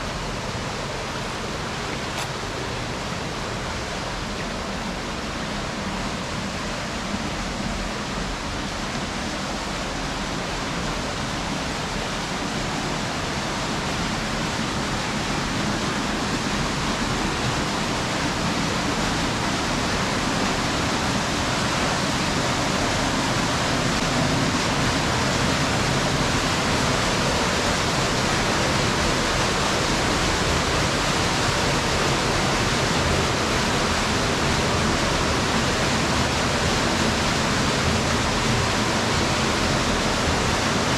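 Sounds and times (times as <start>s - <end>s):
rushing river water: 0.0s - 40.9s.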